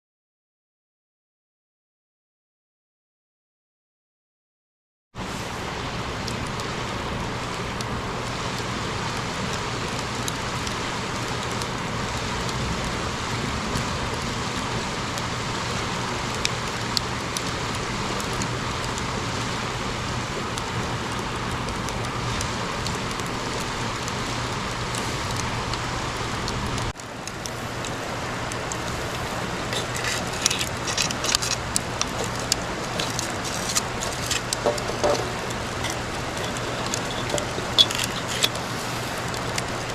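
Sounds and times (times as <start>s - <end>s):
campfire rushing hiss: 5.2s - 39.9s
fire crackles and pops: 5.2s - 39.9s.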